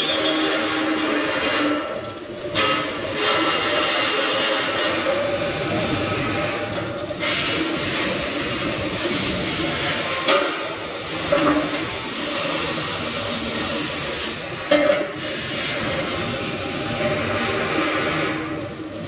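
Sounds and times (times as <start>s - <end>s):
arc welding hissing crackle: 0.0s - 19.0s.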